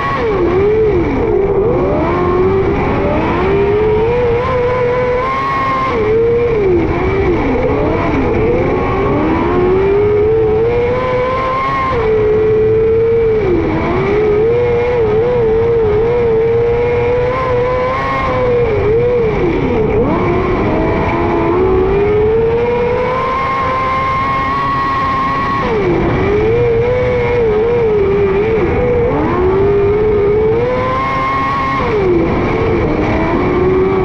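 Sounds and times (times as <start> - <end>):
racing motorcycle engine revving: 0.0 - 34.0.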